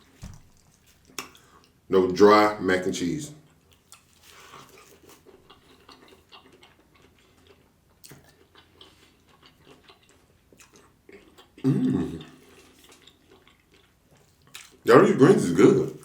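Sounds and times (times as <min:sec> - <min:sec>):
man chewing with mouth clicks: 0:00.0 - 0:01.8, 0:03.4 - 0:14.9.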